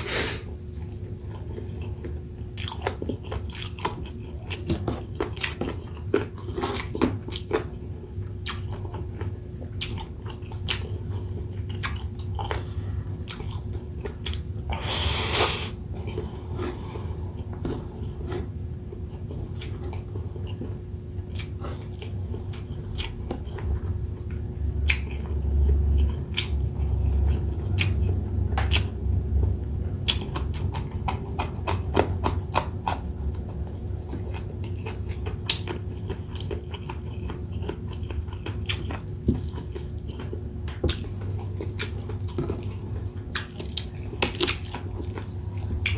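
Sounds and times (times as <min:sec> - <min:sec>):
steady low hum: 0:00.0 - 0:45.9
close chewing and biting: 0:00.4 - 0:29.0, 0:29.9 - 0:45.9.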